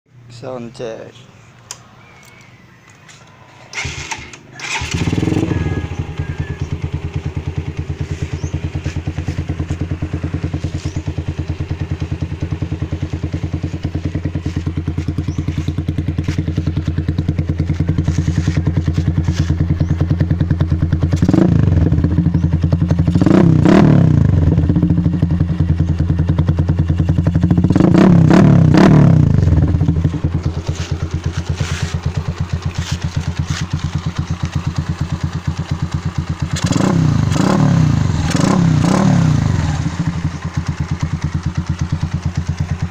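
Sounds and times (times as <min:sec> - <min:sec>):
motorcycle engine starting and idling: 0:01.6 - 0:42.9
motorcycle engine revving: 0:03.1 - 0:42.9.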